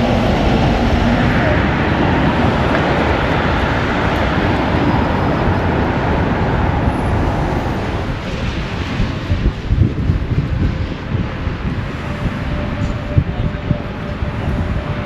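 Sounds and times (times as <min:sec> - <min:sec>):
road traffic with low rumble: 0:00.0 - 0:15.0.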